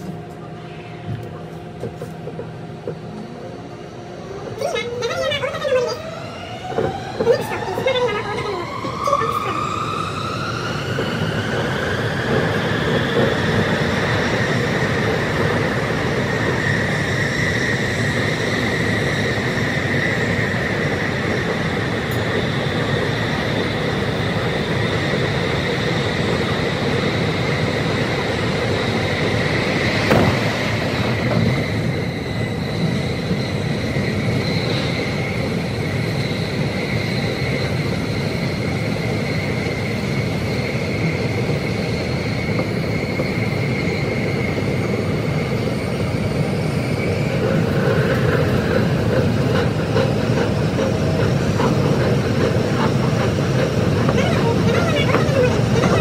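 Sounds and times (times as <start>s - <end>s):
train running noise: 0.0s - 56.0s.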